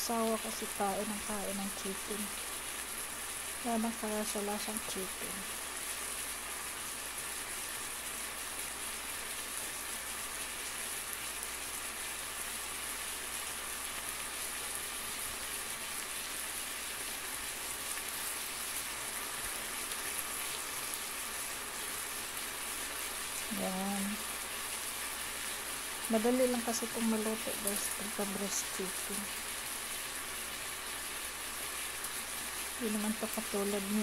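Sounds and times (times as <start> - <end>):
chicken sizzling in a pan: 0.0 - 34.0.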